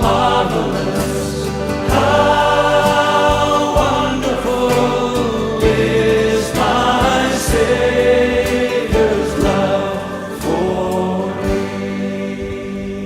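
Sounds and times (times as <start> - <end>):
choir singing a hymn: 0.0 - 13.0.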